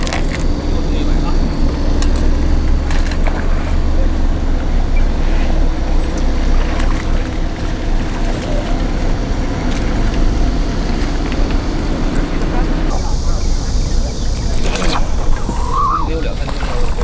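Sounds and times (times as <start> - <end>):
constant rushing noise: 0.0 - 17.0
low mechanical hum: 0.0 - 17.0.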